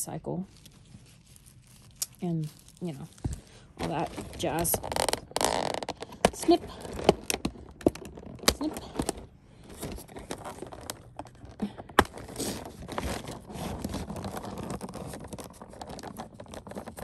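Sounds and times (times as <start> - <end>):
cardboard and plastic rustling: 0.4 - 17.0.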